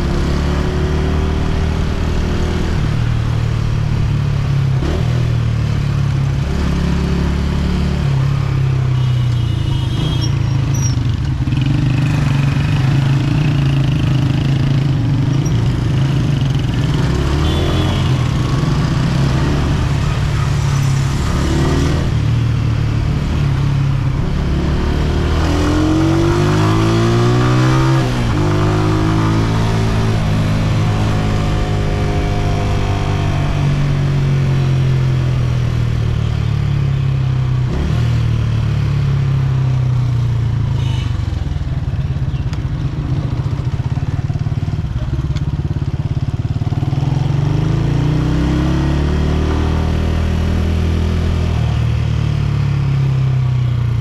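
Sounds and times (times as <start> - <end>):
motorcycle engine revving: 0.0 - 3.8, 4.8 - 54.0.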